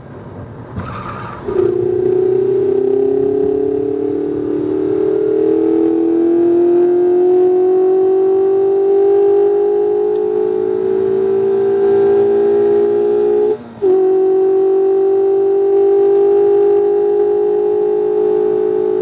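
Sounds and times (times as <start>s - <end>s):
car engine accelerating: 0.7s - 19.0s.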